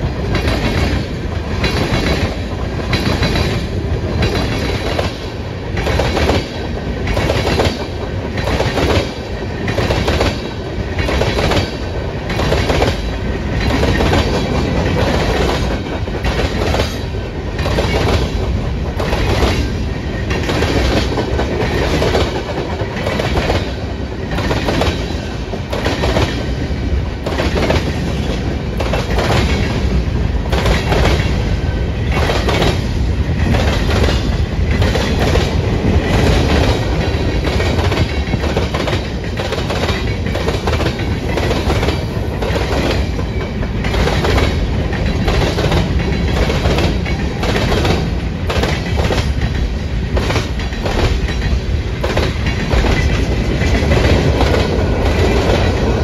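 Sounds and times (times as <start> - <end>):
freight train rumble: 0.0 - 56.0
train wheels clickety-clack: 0.0 - 56.0.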